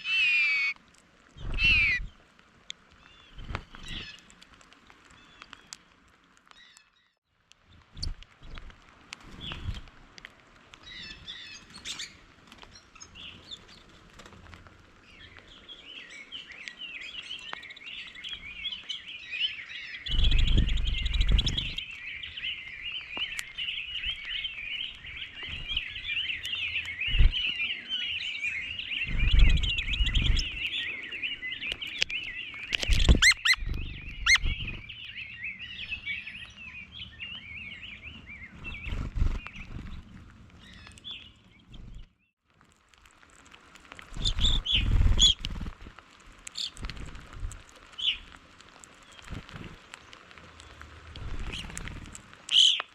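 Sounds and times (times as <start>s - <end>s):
small birds chirping: 0.0s - 0.8s, 1.4s - 2.2s, 2.9s - 10.0s, 10.7s - 42.4s, 43.0s - 52.9s.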